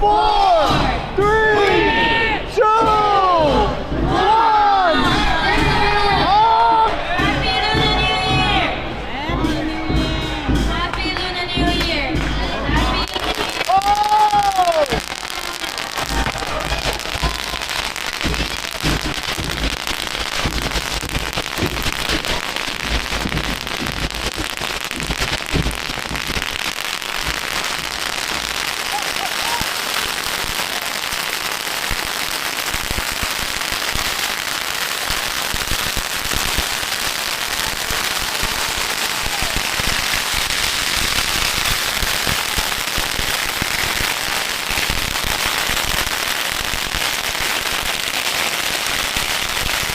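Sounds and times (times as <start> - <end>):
firecrackers crackling: 2.8 - 49.9.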